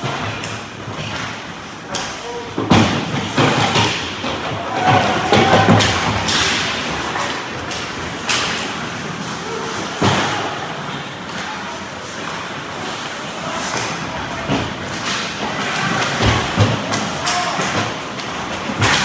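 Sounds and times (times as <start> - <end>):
thuds and bangs on rink boards: 0.0 - 10.6, 13.6 - 19.0.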